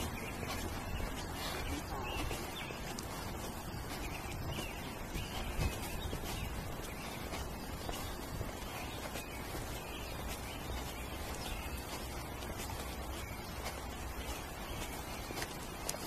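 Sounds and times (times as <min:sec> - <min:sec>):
small birds chirping: 0:00.0 - 0:16.0
wind rumble on microphone: 0:00.0 - 0:16.0.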